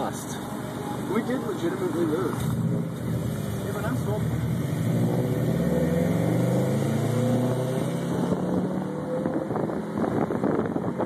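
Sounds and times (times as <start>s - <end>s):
road and wind noise: 0.0s - 11.0s
car engine accelerating: 0.9s - 11.0s.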